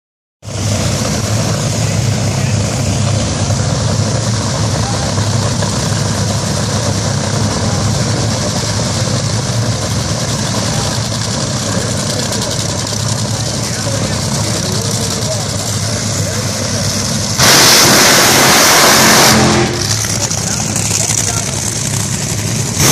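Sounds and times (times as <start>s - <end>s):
race car engines idling: 0.5s - 22.9s.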